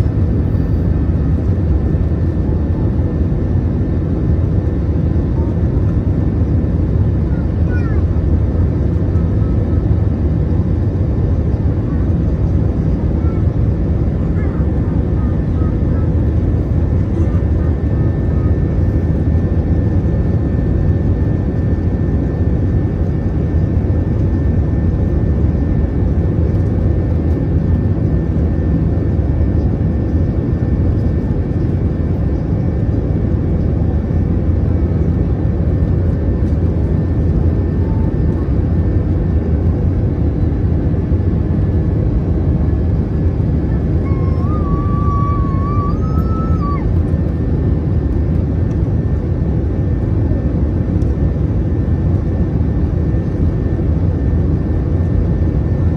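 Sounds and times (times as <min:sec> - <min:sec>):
airplane cabin roar: 0:00.0 - 0:55.9
faint steady whine: 0:00.0 - 0:55.9.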